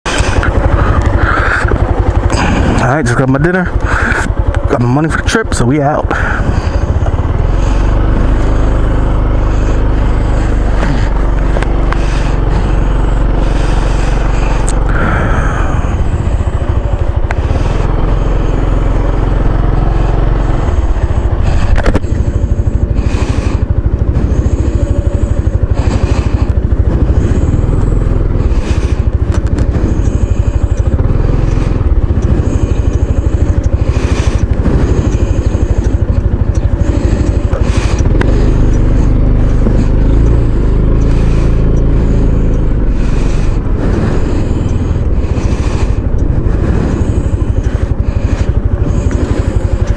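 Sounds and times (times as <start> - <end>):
scooter engine rumble: 0.0 - 49.9.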